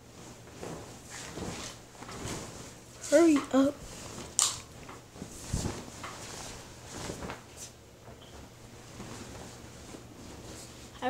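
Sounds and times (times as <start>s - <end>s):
cloth sheet swishing and rustling: 0.0s - 11.0s.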